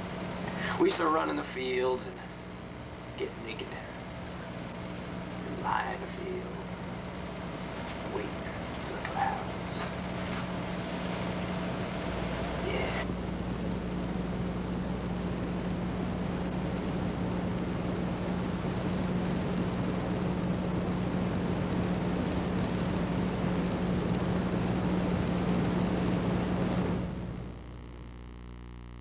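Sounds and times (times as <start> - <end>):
low hum: 0.0 - 29.0
noise hiss: 0.0 - 29.0.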